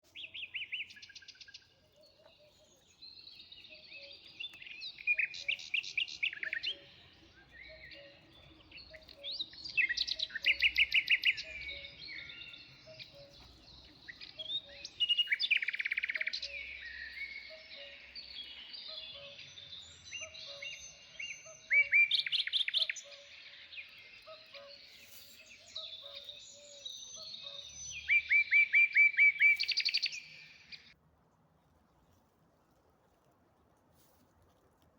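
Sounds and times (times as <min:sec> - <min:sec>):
soft bird chirping: 0:00.0 - 0:31.0
songbird trilling: 0:00.1 - 0:31.0.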